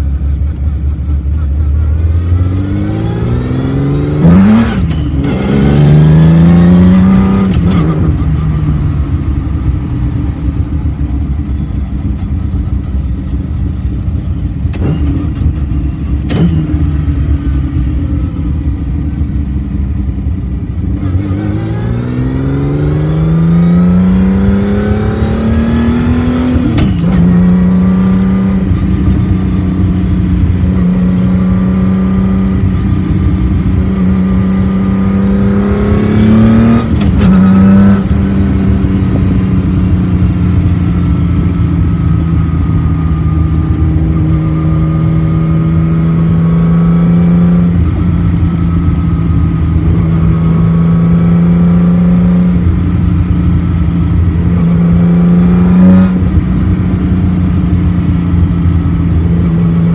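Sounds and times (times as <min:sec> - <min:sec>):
car engine revving through gears: 0:01.5 - 0:09.0, 0:14.6 - 0:17.7, 0:20.8 - 0:59.9.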